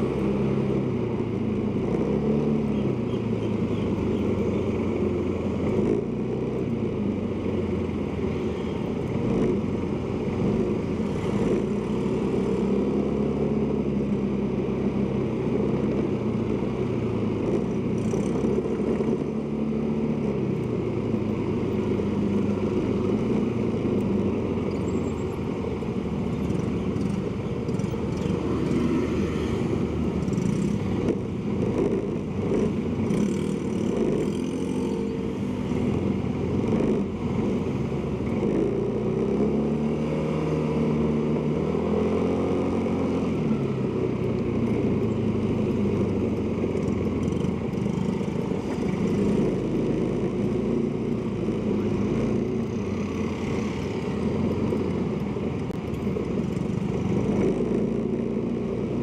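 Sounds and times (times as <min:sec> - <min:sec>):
road and wind noise: 0:00.0 - 0:59.0.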